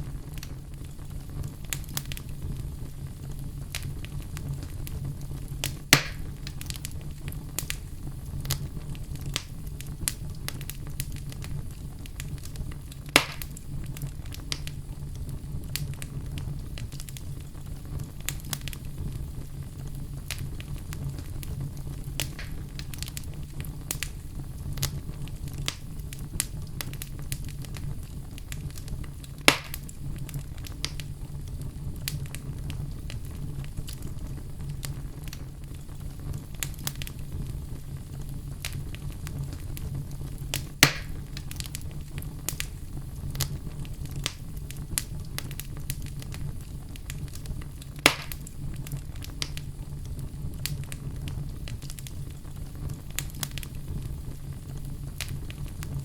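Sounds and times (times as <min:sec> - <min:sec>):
loud fire snaps: 0:00.0 - 0:56.0
wood fire crackling: 0:00.0 - 0:56.0.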